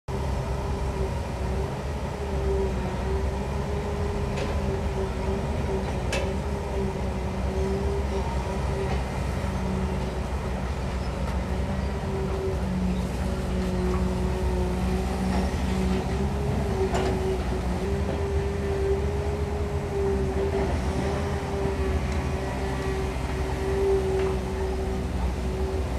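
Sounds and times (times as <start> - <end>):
excavator engine and hydraulics: 0.1 - 25.9.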